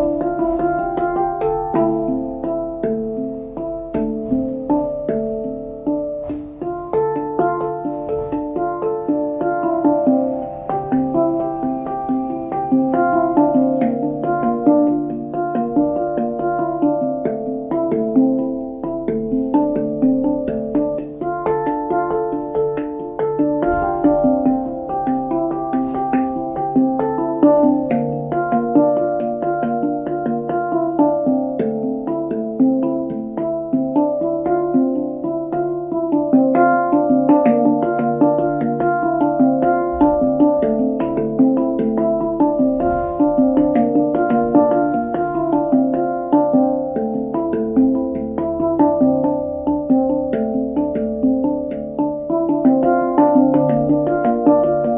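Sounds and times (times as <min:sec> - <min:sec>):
handpan played with fingertips: 0:00.0 - 0:54.9.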